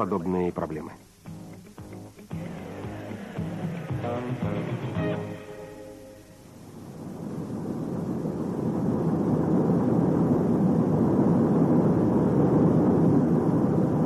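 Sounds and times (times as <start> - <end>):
low steady rumbling: 0.0 - 14.0.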